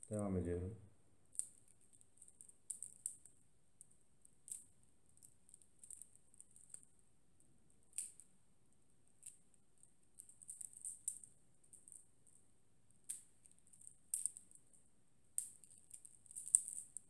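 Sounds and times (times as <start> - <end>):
prayer beads clicking: 1.3 - 7.0, 7.7 - 8.3, 9.1 - 17.0.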